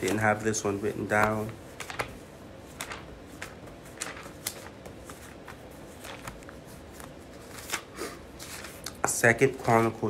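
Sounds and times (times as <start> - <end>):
book pages turning and flicking: 0.0 - 0.4, 1.1 - 10.0.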